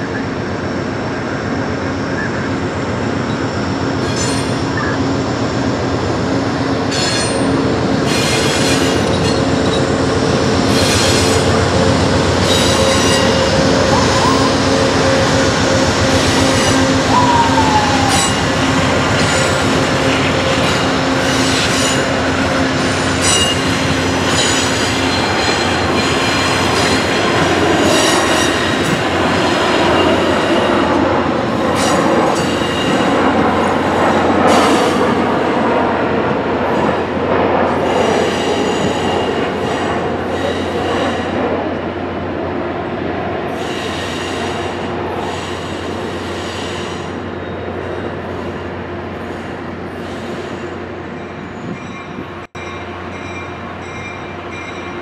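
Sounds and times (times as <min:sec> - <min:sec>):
train rolling past: 0:00.0 - 0:55.0.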